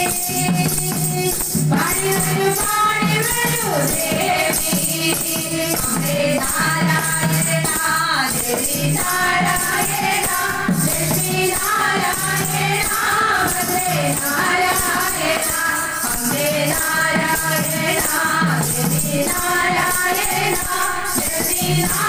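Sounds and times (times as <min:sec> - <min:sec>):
tambourine jingling: 0:00.0 - 0:22.0
women singing through microphones: 0:00.0 - 0:22.0.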